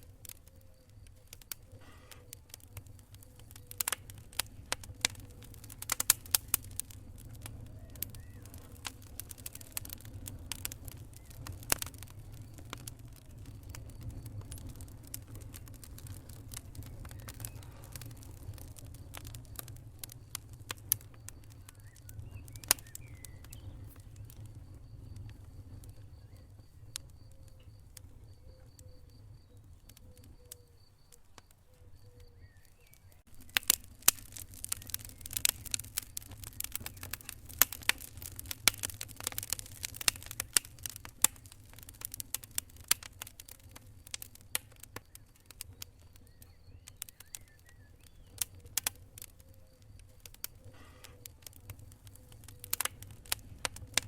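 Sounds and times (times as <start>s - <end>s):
low rumble of fire: 0.0s - 54.0s
wood fire crackling and popping: 0.0s - 54.0s.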